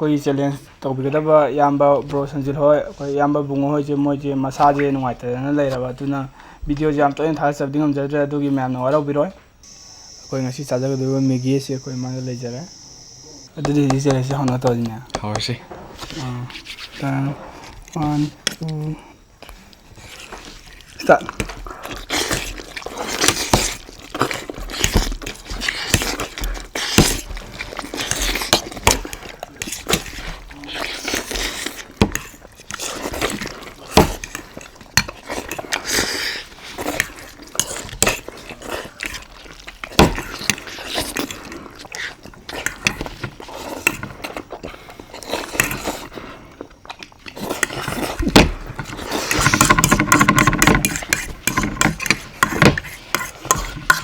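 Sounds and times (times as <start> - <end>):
people eating noodles: 0.4 - 54.0.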